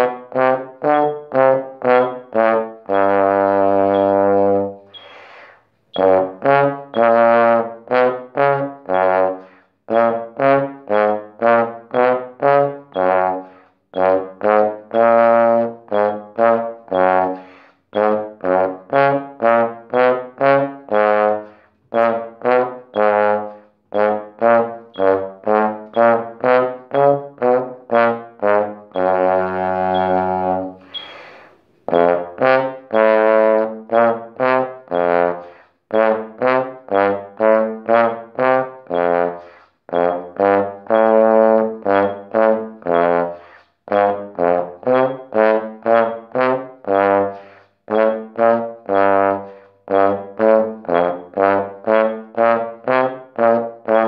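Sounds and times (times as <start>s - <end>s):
trombone playing short notes: 0.0s - 54.0s.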